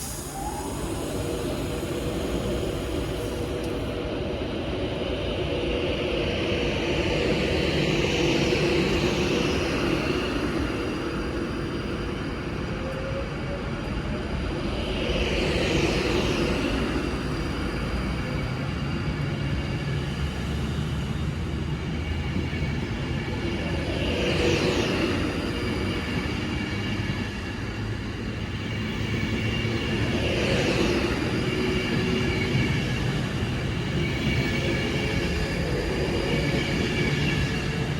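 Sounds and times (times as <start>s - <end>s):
high train whine: 0.0s - 37.9s
train rumbling: 0.0s - 37.9s.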